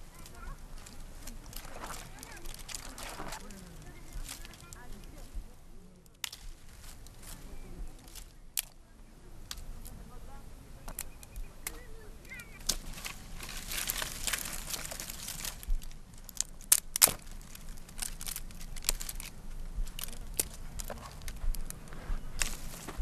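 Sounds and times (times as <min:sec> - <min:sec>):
twigs snapping: 0:00.0 - 0:05.4, 0:06.0 - 0:08.8, 0:09.4 - 0:10.0, 0:10.8 - 0:23.0
dry scrub rustling: 0:00.0 - 0:10.3, 0:11.0 - 0:23.0.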